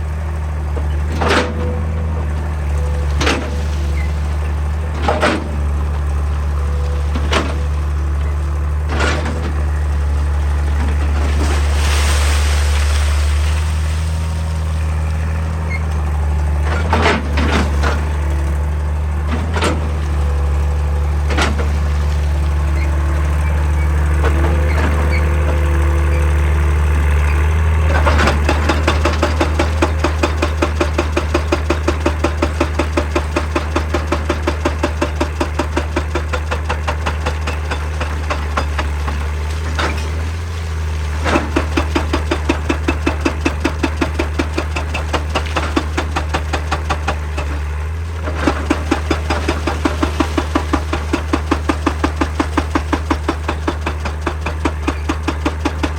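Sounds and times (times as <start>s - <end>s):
diesel engine running: 0.0s - 55.9s
hydraulic breaker hammering rock: 0.6s - 55.9s.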